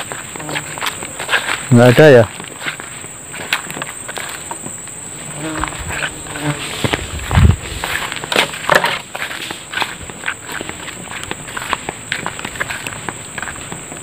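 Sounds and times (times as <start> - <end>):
footsteps on dry leaves: 0.0 - 14.0
insects droning: 0.0 - 14.0.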